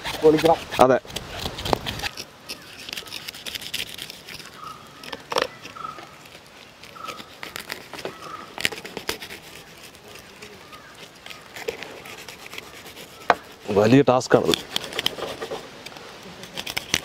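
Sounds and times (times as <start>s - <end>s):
knife scraping fish scales: 0.0s - 17.0s.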